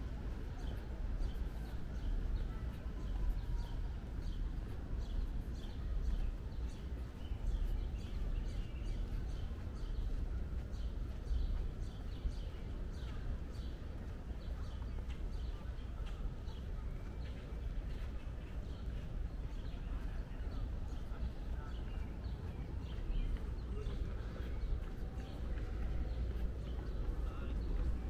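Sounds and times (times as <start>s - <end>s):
low outdoor rumble: 0.0s - 28.0s
small birds chirping: 0.0s - 28.0s.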